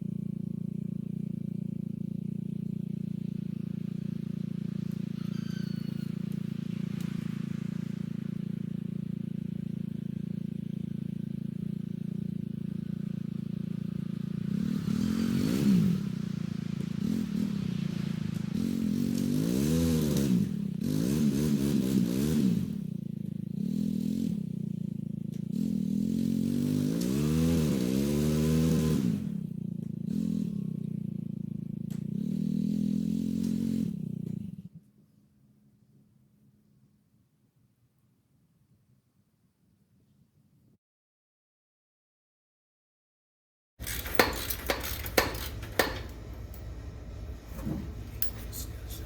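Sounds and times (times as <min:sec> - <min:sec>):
vehicle engine revving: 0:00.0 - 0:34.8, 0:43.8 - 0:49.0.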